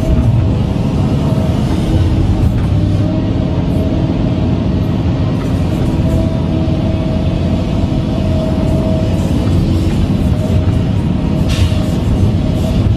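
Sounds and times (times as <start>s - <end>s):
excavator diesel engine rumbling: 0.0s - 12.9s.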